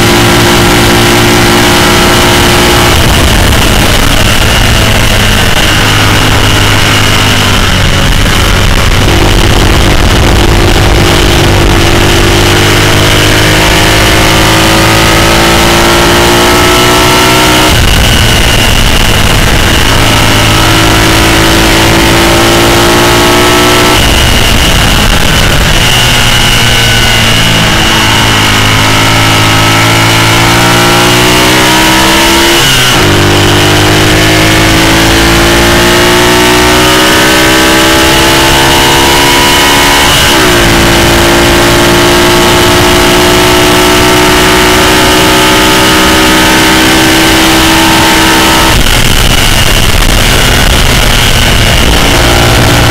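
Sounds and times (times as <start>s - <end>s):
high whine: 0.0s - 52.9s
racing engine at full throttle: 0.0s - 52.9s
wind rush: 0.0s - 52.9s.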